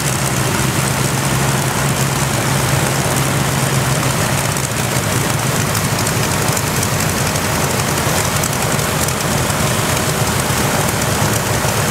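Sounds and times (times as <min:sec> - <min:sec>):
piston aero engines droning: 0:00.0 - 0:11.9.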